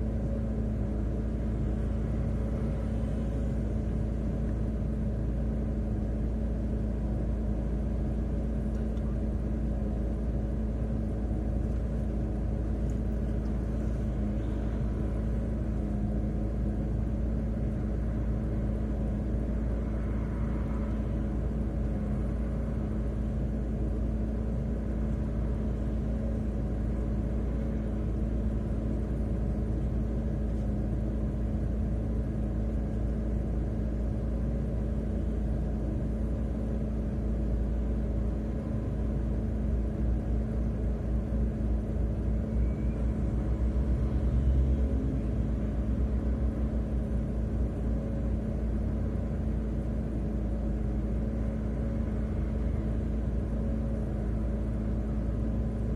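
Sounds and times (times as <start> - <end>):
car engine and tyres rumbling: 0.0 - 55.9.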